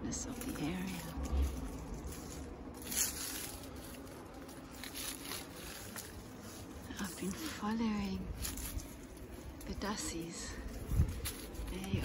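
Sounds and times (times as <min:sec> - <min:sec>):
footsteps through dry scrub: 0:00.0 - 0:12.0.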